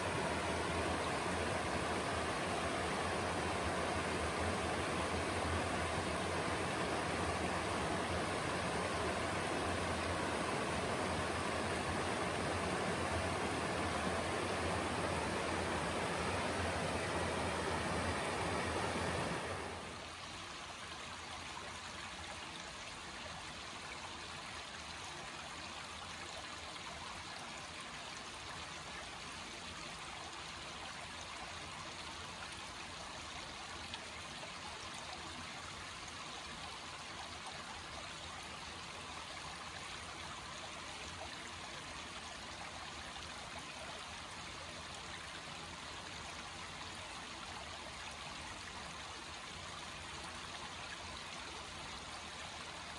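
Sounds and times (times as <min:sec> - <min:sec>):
creek rippling over rocks: 0:00.0 - 0:52.9.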